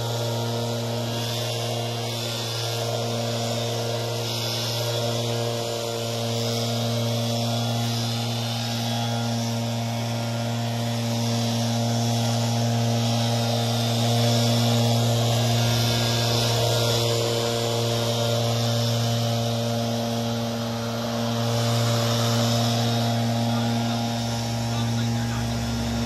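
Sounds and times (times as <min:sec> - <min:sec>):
leaf blower engine drone: 0:00.0 - 0:26.0.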